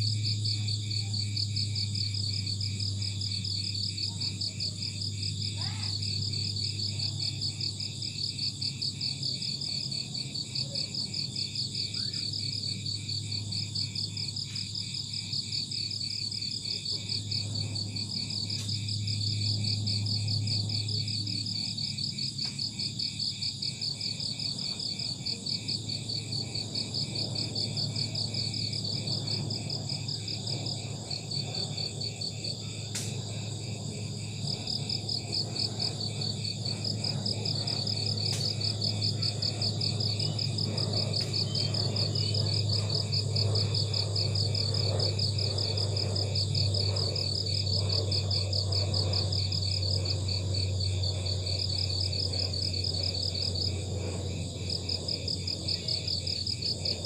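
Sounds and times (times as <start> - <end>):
crickets chirping: 0.0 - 57.0
steady low hum: 0.0 - 57.0.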